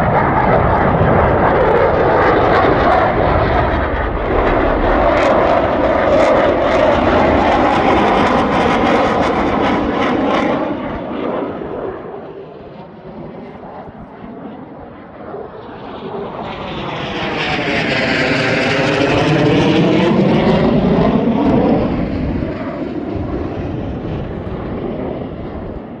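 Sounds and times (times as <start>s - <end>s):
jet aircraft low pass: 0.0s - 26.0s.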